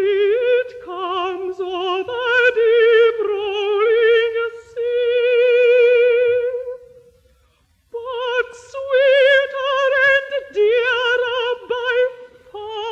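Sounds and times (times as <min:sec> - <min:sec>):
woman singing unaccompanied: 0:00.0 - 0:07.0, 0:08.0 - 0:12.9.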